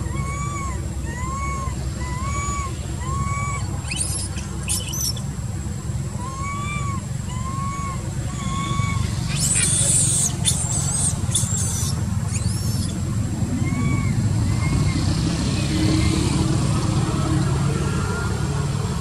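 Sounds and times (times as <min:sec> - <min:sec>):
monkey squeals: 0:00.0 - 0:05.3, 0:06.1 - 0:16.4
monkey whistle-like coos: 0:00.0 - 0:05.3, 0:06.1 - 0:16.6
low steady rumble: 0:00.0 - 0:19.0.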